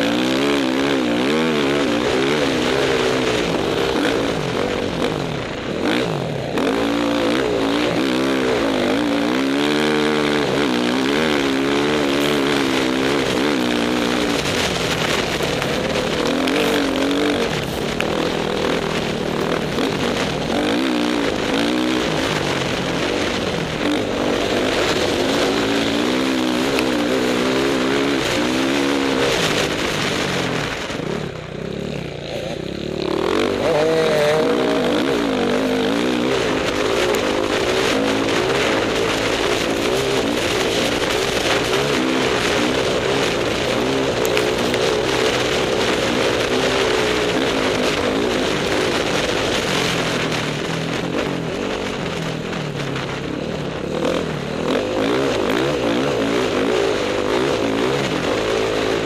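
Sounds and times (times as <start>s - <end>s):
off-road motorcycle engine revving: 0.0s - 59.0s
other dirt bikes: 0.0s - 59.0s
wind noise: 0.0s - 59.0s.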